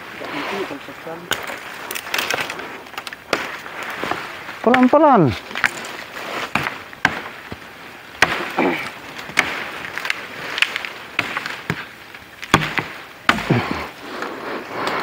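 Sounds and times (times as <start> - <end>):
rustling brush and leaves: 0.0 - 15.0.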